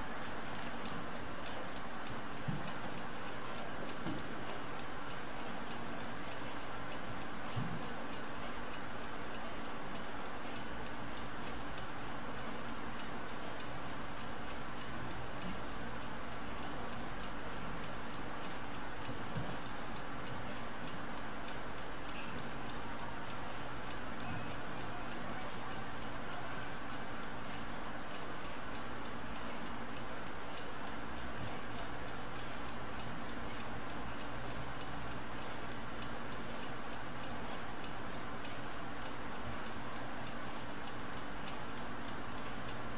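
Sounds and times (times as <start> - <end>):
low steady hum: 0.0 - 42.9
stopclock ticking rapidly: 0.0 - 42.9.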